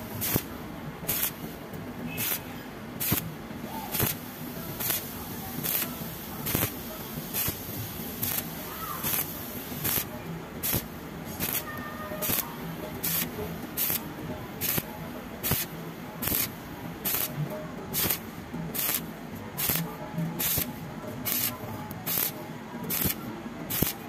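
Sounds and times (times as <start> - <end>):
welding arc crackling and hissing: 0.0 - 24.0.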